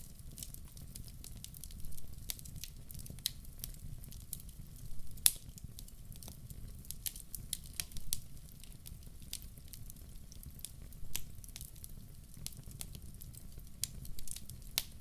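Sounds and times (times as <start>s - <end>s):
crackles and pops of burning logs: 0.0s - 15.0s
low rumble of flames: 0.0s - 15.0s.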